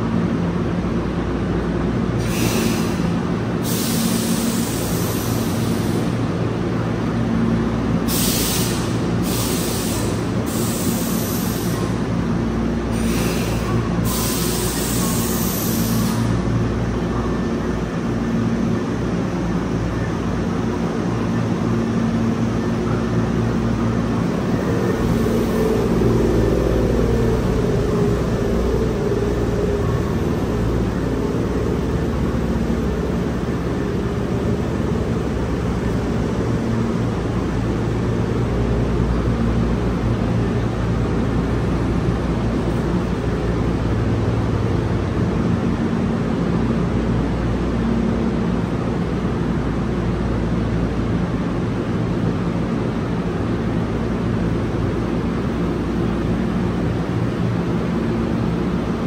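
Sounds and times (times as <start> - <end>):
electric train rumble and hum: 0.0 - 59.0.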